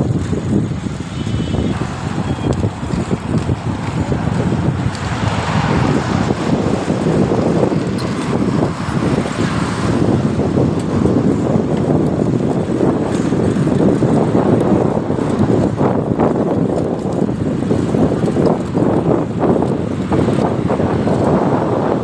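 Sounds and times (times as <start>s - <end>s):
roller-skate wheels on asphalt: 0.0s - 22.0s
wind buffeting microphone: 0.0s - 22.0s.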